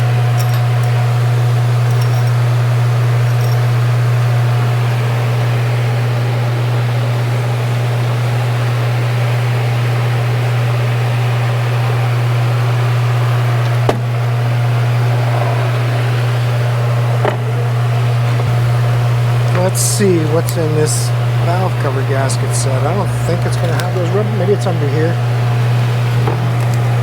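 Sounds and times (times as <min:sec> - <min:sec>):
machine hum with hiss: 0:00.0 - 0:27.0.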